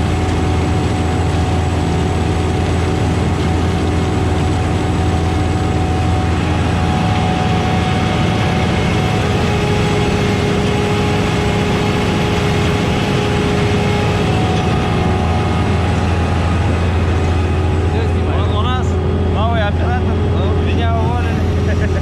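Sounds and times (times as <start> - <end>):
whining tones: 0.0 - 21.7
heavy diesel engine running: 0.0 - 22.0.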